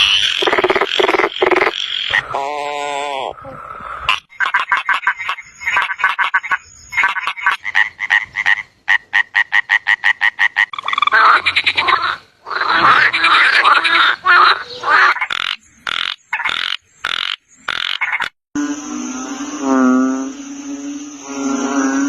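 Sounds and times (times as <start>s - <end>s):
frogs croaking: 0.0s - 22.0s.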